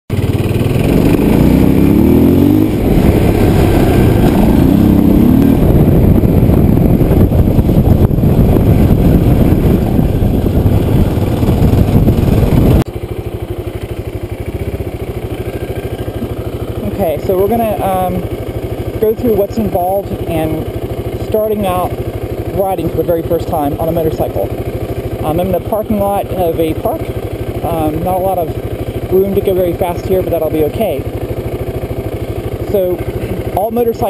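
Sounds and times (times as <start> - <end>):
dirt bike engine accelerating: 0.1 - 34.0
dirt bike idling: 0.1 - 34.0.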